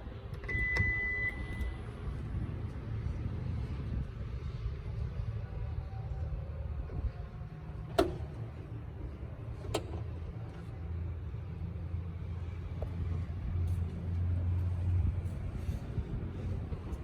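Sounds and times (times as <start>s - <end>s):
engine low rumble: 0.0s - 17.0s.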